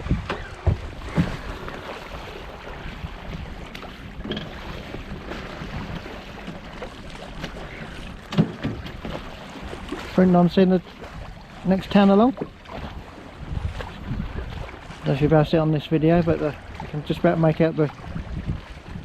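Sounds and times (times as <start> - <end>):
water rushing along hull: 0.0 - 19.0
wind on microphone: 0.0 - 19.0.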